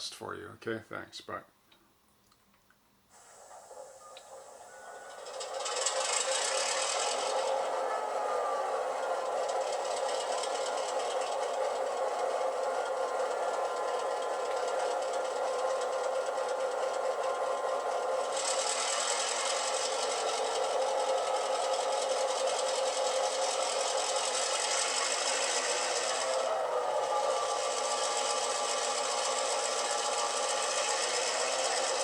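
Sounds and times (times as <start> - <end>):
diesel engine sound from small speakers: 3.2 - 32.0.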